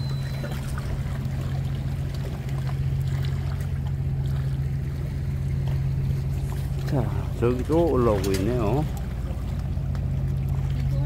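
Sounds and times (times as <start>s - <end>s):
faint water wash: 0.0s - 11.0s
low engine hum: 0.0s - 11.0s.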